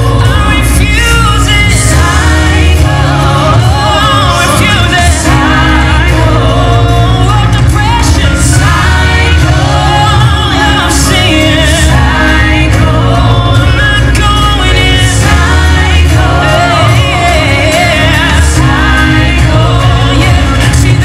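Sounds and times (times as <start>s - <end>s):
gospel song over speakers: 0.0s - 21.0s.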